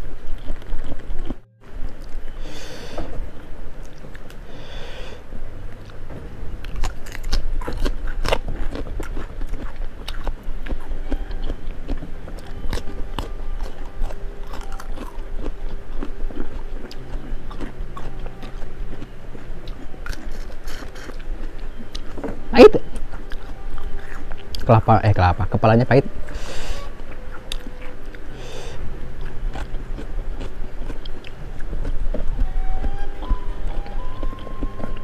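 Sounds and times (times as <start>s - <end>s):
crunchy chewing: 0.0s - 5.0s, 6.6s - 25.0s, 26.0s - 35.0s.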